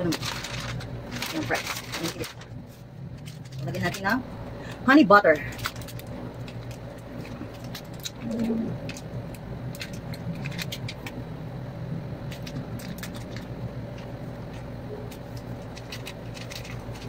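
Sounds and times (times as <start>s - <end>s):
paper sachet crinkling: 0.0s - 4.2s, 5.4s - 11.2s, 12.3s - 17.0s
low hum: 0.0s - 17.0s.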